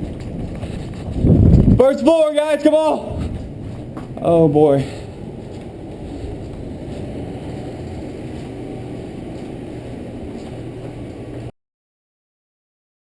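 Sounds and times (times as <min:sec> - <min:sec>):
strong storm wind roaring: 0:00.0 - 0:11.5.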